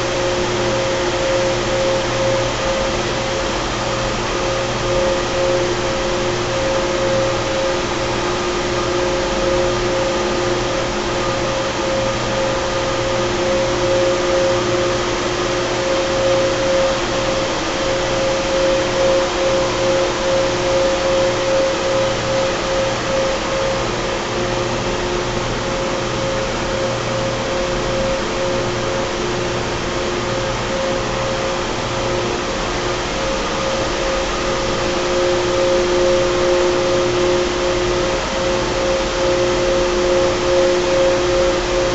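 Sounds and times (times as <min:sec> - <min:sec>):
chiller machine hum: 0:00.0 - 0:41.9.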